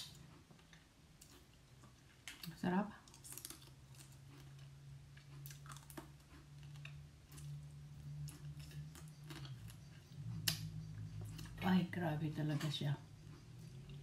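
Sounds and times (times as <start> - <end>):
chewing and lip smacking: 0.0 - 11.7
low steady hum: 0.0 - 14.0.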